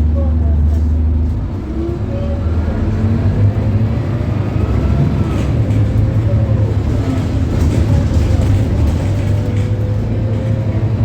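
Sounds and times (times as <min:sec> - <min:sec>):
diesel bus engine droning: 0:00.0 - 0:11.0.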